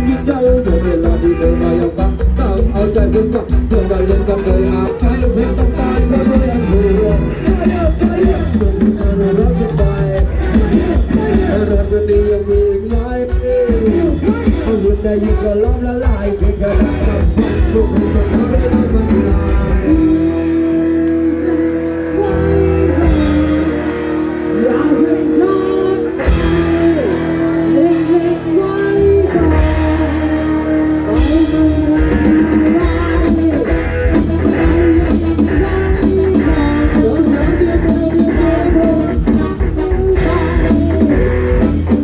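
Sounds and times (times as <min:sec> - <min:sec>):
heavy bass and drums: 0:00.0 - 0:42.0.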